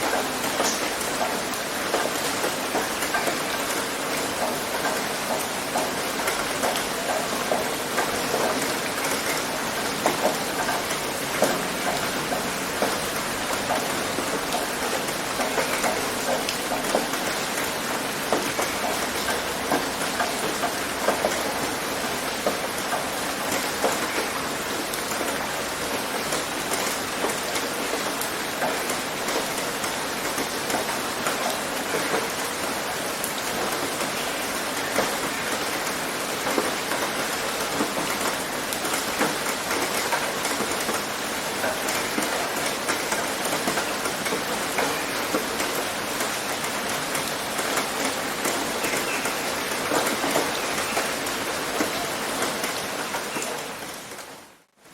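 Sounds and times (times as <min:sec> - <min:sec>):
rain on a tin roof: 0:00.0 - 0:54.9.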